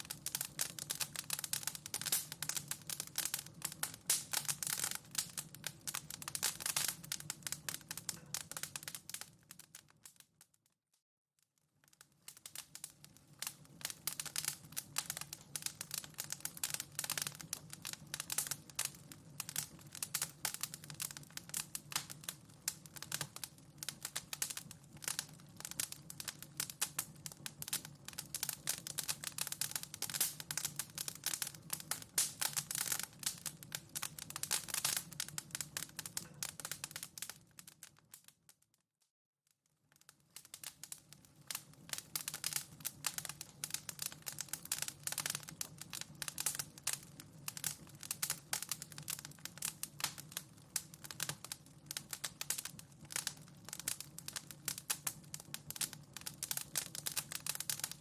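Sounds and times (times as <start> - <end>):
fire rumbling: 0.0 - 9.5, 12.4 - 37.4, 40.6 - 58.0
fire crackling and popping: 0.0 - 10.7, 11.6 - 38.8, 39.8 - 58.0.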